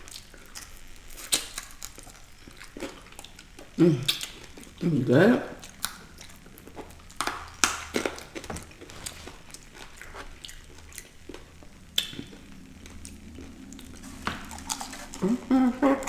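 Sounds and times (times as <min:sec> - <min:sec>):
chewing with wet clicks: 0:00.0 - 0:04.8, 0:05.6 - 0:15.2.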